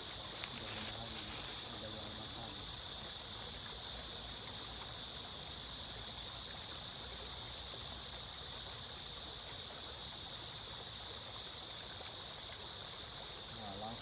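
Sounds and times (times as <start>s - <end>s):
high-pitched outdoor hiss: 0.0s - 14.0s.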